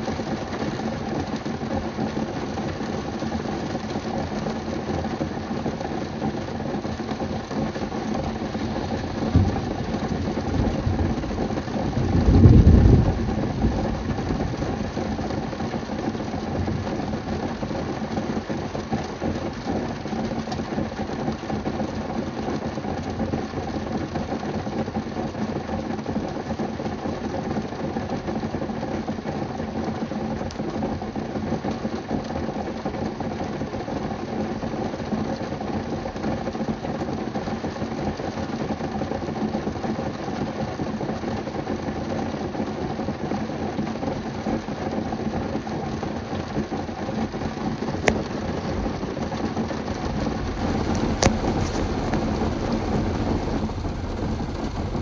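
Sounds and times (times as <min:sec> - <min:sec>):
heavy rain on car roof: 0:00.0 - 0:55.0.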